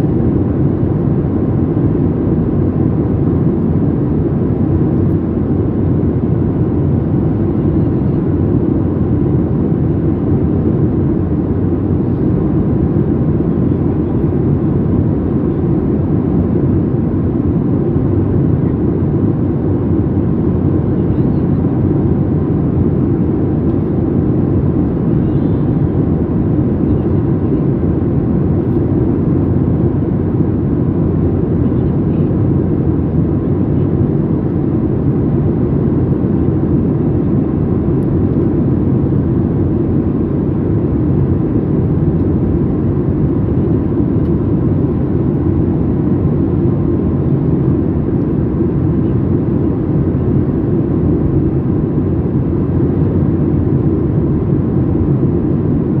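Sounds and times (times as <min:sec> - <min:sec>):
airflow and jet engine rush: 0:00.0 - 0:56.0
airplane cabin noise: 0:00.0 - 0:56.0.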